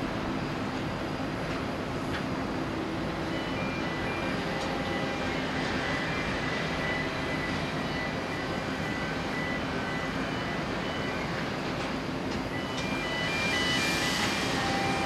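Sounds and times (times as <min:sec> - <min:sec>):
distant jet engines: 0:00.0 - 0:15.0.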